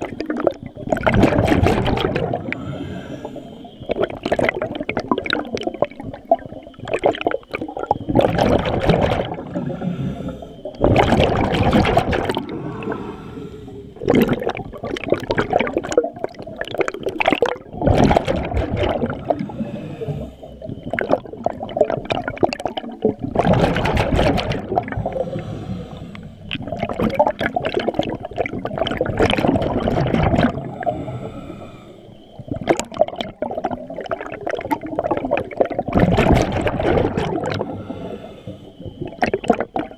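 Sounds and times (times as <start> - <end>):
diver exhaling bubbles underwater: 0.0 - 39.9.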